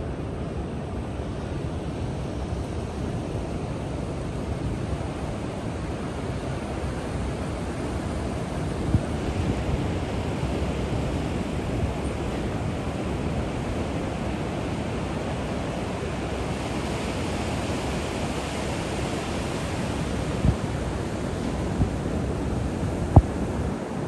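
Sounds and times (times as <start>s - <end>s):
surf breaking and washing: 2.3s - 24.0s.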